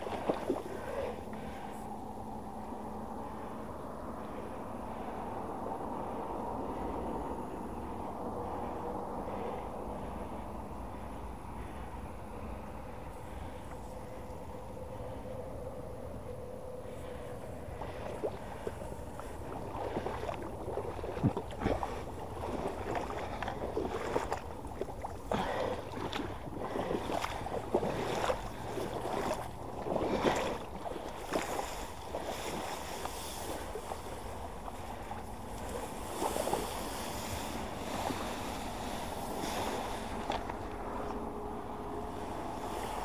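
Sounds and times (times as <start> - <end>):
swishing through reeds and water: 0.0 - 43.0
wind on microphone: 0.0 - 43.0.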